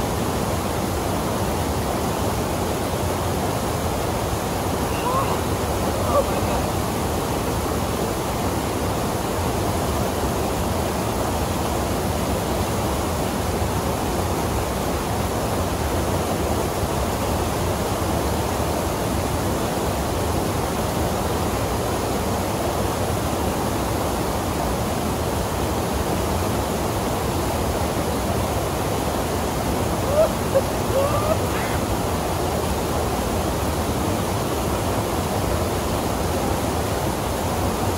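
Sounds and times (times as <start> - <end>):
waterfall rushing over rocks: 0.0 - 37.9.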